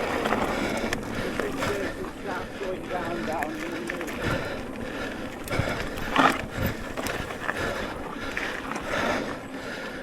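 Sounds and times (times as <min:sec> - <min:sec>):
bike rattling: 0:00.0 - 0:09.7
bike tyres rumbling on dirt: 0:00.0 - 0:10.0.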